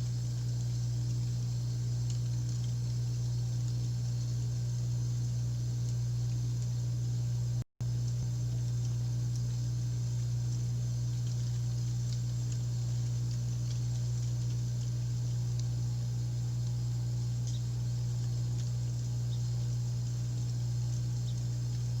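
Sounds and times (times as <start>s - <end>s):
faint ticks: 0.0s - 6.8s, 7.8s - 22.0s
heat pump humming: 0.0s - 22.0s.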